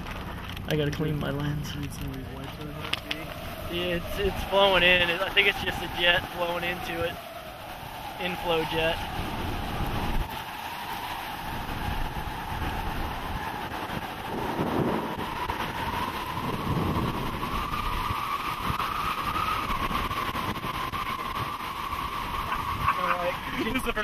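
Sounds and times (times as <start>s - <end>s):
vehicle interior rumble: 0.0s - 24.0s.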